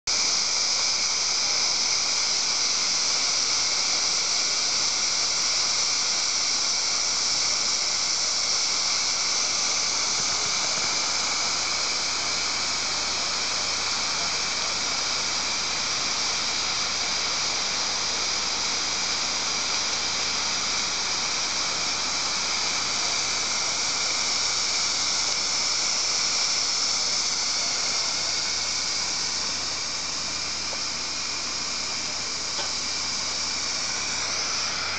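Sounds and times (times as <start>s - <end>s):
steam hissing from valve: 0.0s - 34.9s.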